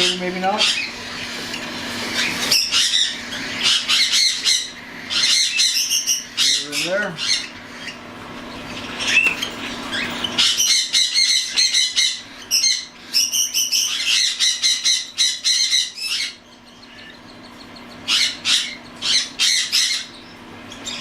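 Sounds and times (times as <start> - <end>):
cockatiels squawking: 0.0 - 21.0.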